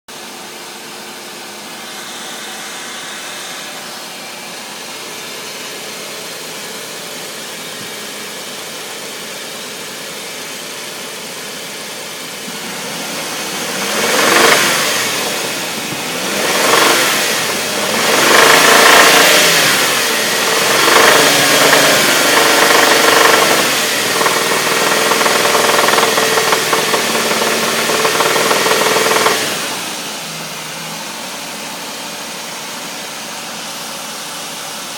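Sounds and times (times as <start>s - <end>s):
car engine knocking and revving: 3.9s - 33.8s.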